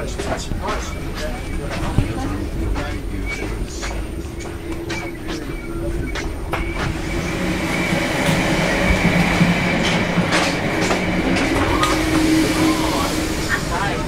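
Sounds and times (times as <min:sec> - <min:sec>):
high wheel squeal: 0:00.0 - 0:14.0
train running on rails: 0:00.0 - 0:14.0.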